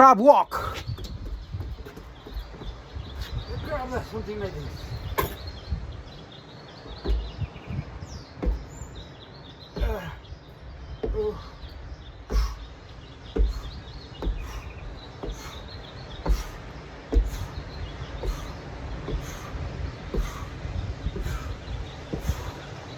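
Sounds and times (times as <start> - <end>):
birds chirping: 0.0 - 22.9
dull thumps: 0.6 - 6.0, 6.8 - 22.9.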